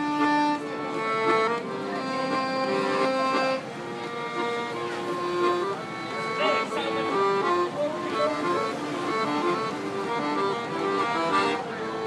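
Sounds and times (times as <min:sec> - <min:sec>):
instrumental tune with held chords: 0:00.0 - 0:12.0.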